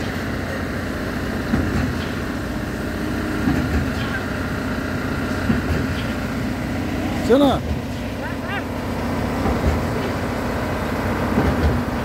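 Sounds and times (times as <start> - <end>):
heavy diesel machinery droning: 0.0 - 12.0.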